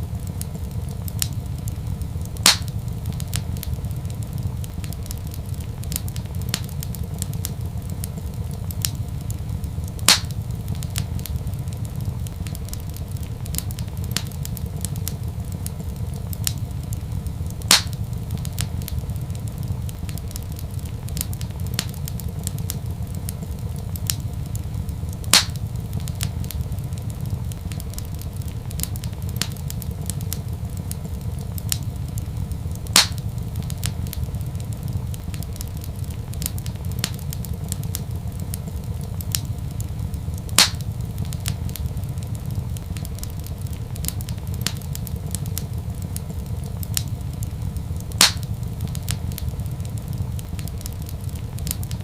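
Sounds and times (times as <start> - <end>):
loud fire pops: 0.0 - 52.0
wood fire crackling: 0.0 - 52.0.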